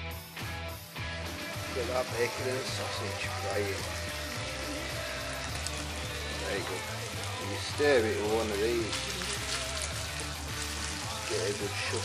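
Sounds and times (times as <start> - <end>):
meat sizzling in oil: 1.0 - 12.0.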